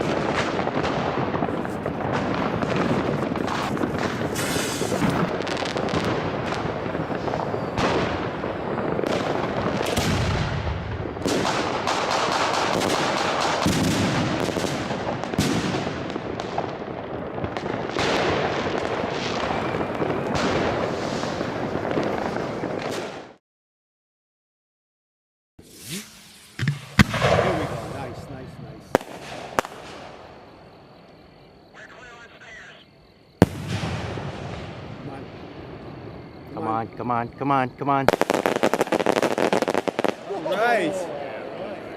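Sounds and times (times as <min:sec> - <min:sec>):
fireworks bangs and crackling: 0:00.0 - 0:23.4, 0:25.6 - 0:41.9.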